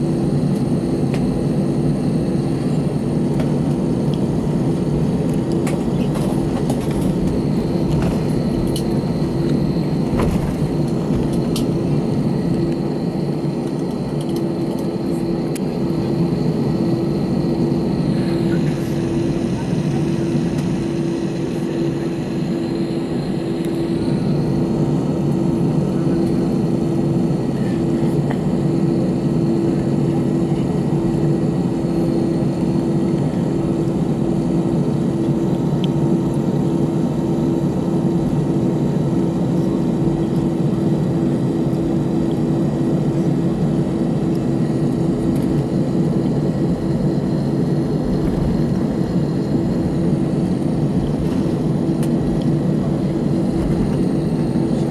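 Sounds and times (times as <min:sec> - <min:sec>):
jet engine cabin hum: 0:00.0 - 0:54.9.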